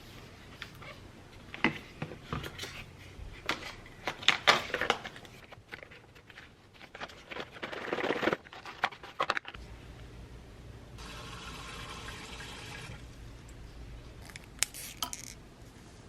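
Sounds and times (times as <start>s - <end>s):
quiet steady hum: 0.0s - 16.0s.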